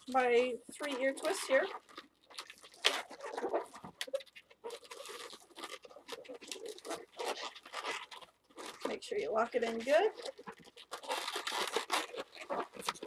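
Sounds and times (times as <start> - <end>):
balloons squeaking and rubbing: 0.0 - 13.0.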